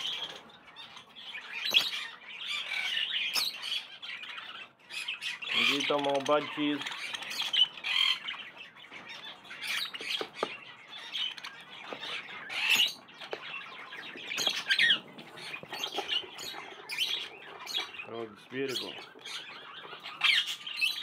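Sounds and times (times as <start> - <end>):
budgerigars chirping and squawking: 0.0 - 21.0.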